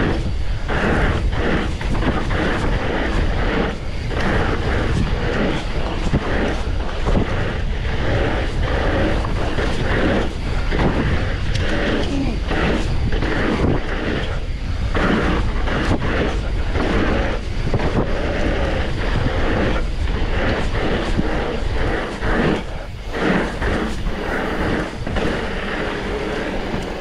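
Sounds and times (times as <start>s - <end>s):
bike tyres on gravel: 0.0s - 27.0s
wind buffeting microphone: 0.0s - 27.0s.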